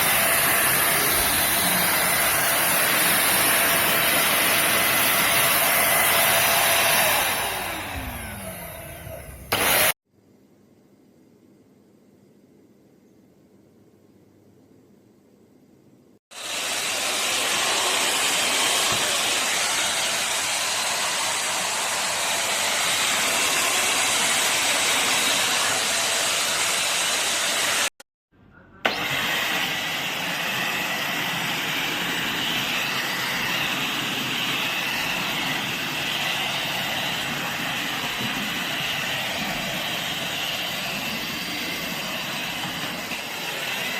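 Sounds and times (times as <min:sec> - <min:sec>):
stick vacuum cleaner running: 0:00.0 - 0:10.0, 0:16.3 - 0:27.9, 0:28.8 - 0:43.9.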